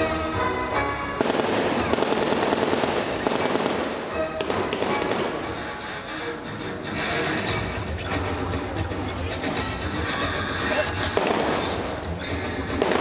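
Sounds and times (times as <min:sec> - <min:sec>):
music: 0:00.0 - 0:13.0.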